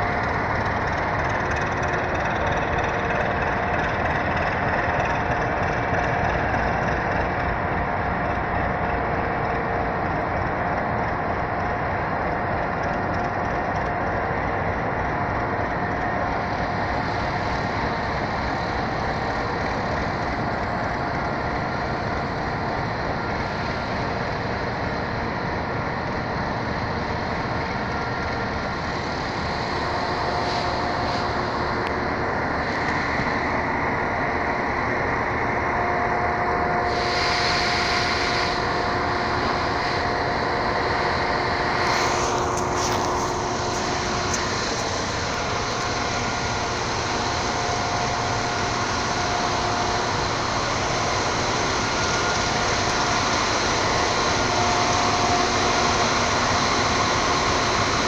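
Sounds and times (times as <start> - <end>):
faint steady whine: 0.0 - 58.0
train rumbling on tracks: 0.0 - 58.0.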